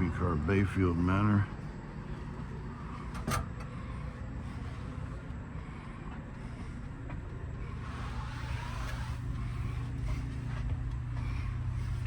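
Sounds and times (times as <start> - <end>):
low hum inside rail car: 0.0 - 12.0.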